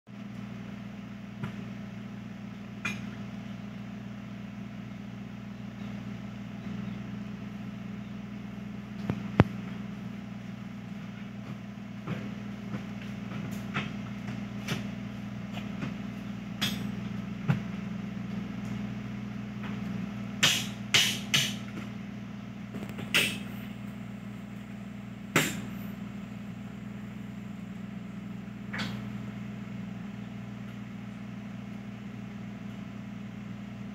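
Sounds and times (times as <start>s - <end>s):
low mechanical hum: 0.1s - 33.9s.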